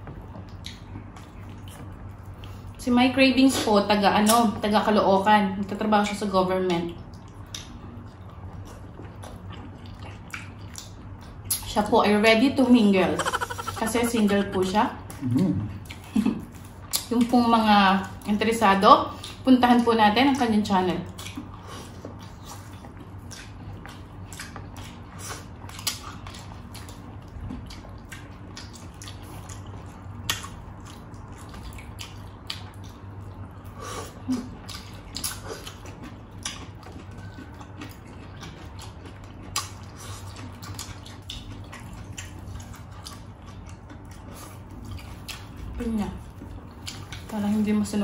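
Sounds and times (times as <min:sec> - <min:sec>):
people chewing food: 0:00.0 - 0:48.0
steady low hum: 0:00.0 - 0:48.0.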